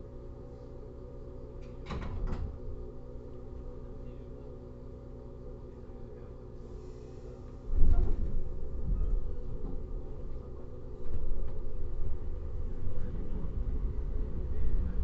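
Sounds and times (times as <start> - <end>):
steady low hum with tones: 0.0 - 15.0
train rumble: 1.5 - 15.0.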